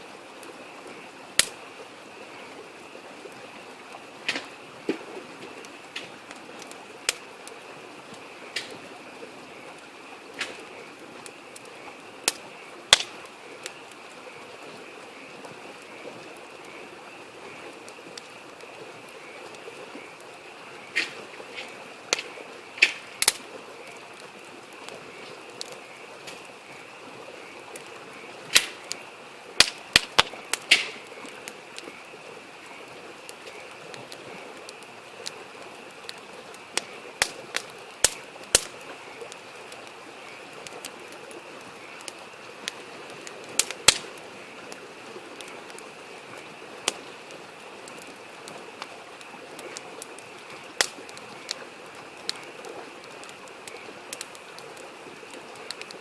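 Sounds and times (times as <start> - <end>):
babbling stream: 0.0 - 56.0
campfire crackling and popping: 0.0 - 56.0.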